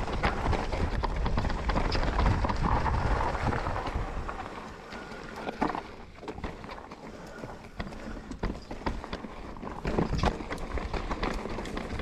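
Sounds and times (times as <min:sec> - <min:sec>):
bike rattling: 0:00.0 - 0:12.0
bike tyres crunching on dirt: 0:00.0 - 0:12.0.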